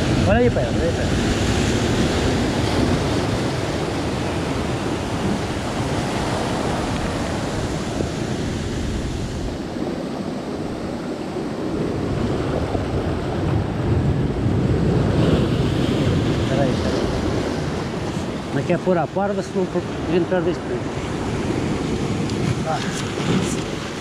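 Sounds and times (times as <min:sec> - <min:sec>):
sea surf washing: 0:00.0 - 0:24.0
wind buffeting microphone: 0:00.0 - 0:24.0.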